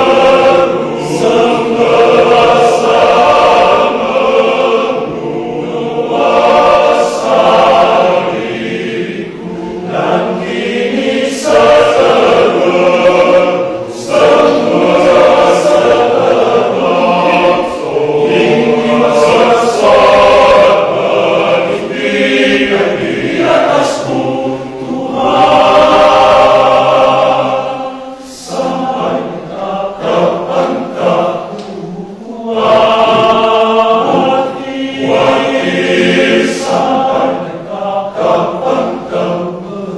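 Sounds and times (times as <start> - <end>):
men's choir singing in parts: 0.0 - 39.9.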